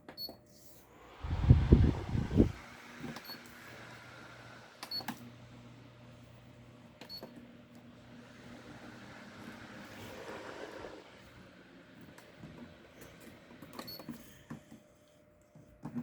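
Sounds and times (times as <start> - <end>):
electric fan motor hum: 0.8 - 14.8.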